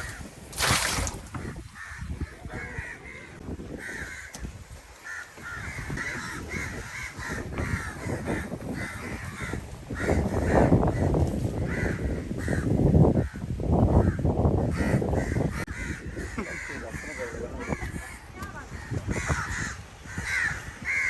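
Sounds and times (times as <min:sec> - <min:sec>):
crows cawing: 0:01.4 - 0:13.4, 0:14.0 - 0:21.0.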